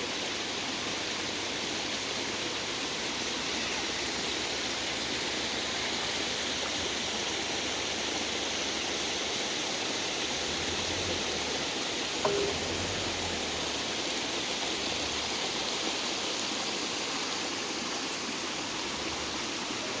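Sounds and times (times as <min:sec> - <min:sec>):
spring water running: 0:00.0 - 0:20.0.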